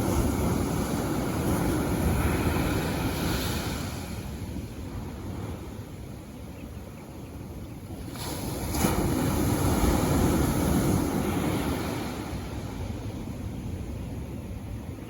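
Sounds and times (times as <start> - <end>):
ocean waves washing ashore: 0.0 - 15.0
wind buffeting microphone: 0.0 - 15.0.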